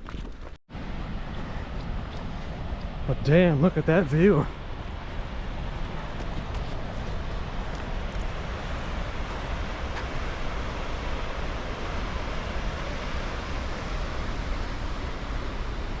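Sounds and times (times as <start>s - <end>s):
river rushing: 0.8s - 16.0s.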